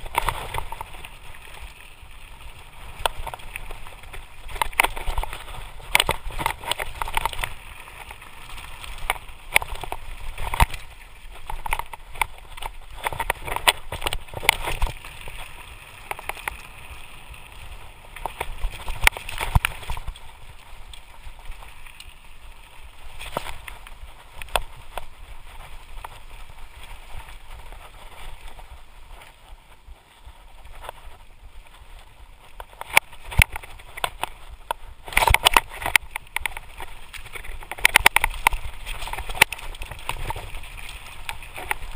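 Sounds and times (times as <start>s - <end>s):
bike rattling and clanking: 0.0s - 29.5s, 30.1s - 41.9s
tyres crunching over stones: 0.0s - 41.9s.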